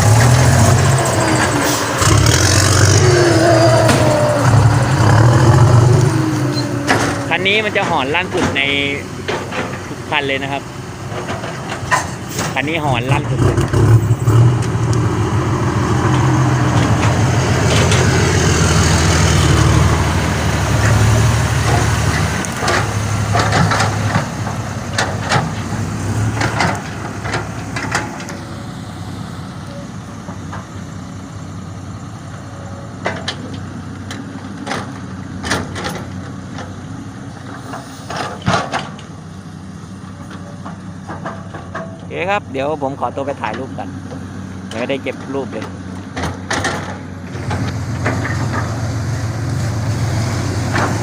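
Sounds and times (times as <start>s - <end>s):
truck engine exhaust howl: 0.0s - 51.0s.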